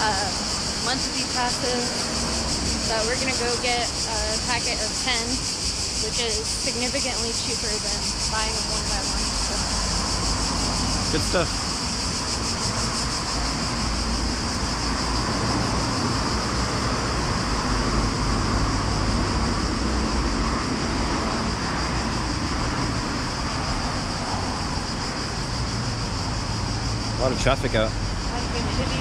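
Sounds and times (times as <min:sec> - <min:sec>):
high-pitched hiss: 0:00.0 - 0:29.0
road traffic rumble: 0:00.0 - 0:29.0.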